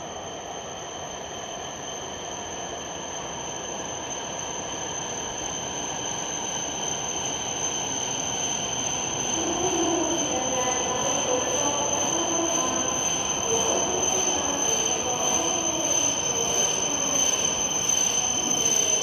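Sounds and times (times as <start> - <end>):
high-pitched whine: 0.0 - 19.0
train running noise: 2.4 - 19.0.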